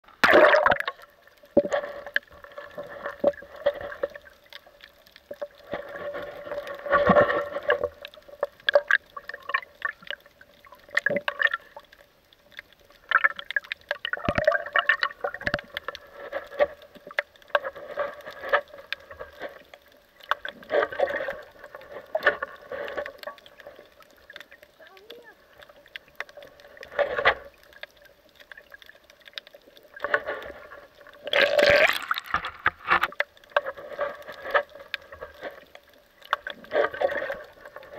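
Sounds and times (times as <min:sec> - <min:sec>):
clicks and crackles: 0:00.0 - 0:37.9
water gurgling and sloshing: 0:00.0 - 0:37.9.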